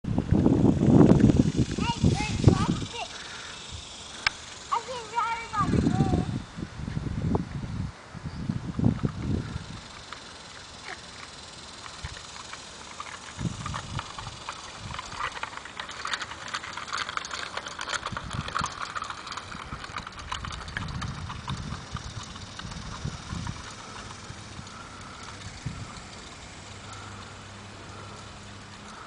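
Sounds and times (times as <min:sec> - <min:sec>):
bicycle clicking on concrete: 0:00.1 - 0:07.0, 0:08.5 - 0:29.0.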